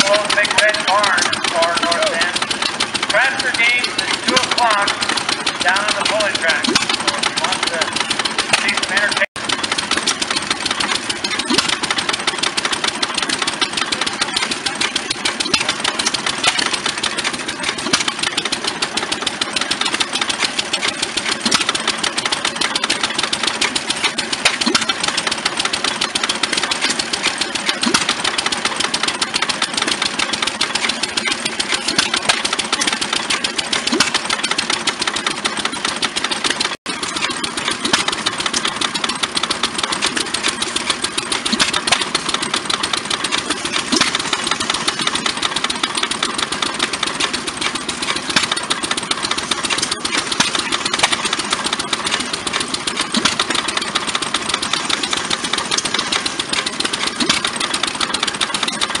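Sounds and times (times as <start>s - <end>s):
old gas engines clattering: 0.0s - 59.0s.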